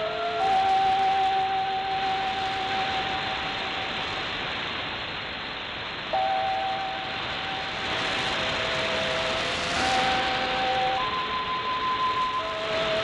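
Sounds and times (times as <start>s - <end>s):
long held musical notes: 0.0s - 4.1s, 6.1s - 13.0s
heavy radio static hiss: 0.0s - 13.0s.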